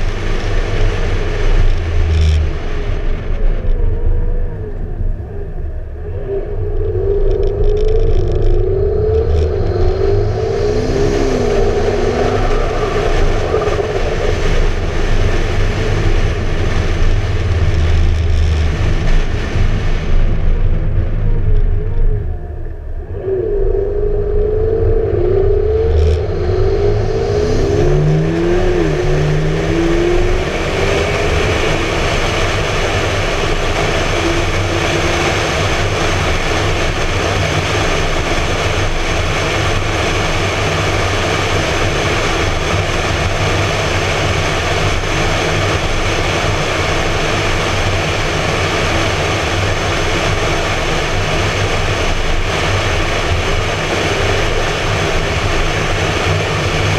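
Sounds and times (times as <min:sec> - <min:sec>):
car engine accelerating: 0:00.0 - 0:56.9
wind and road noise: 0:00.0 - 0:56.9.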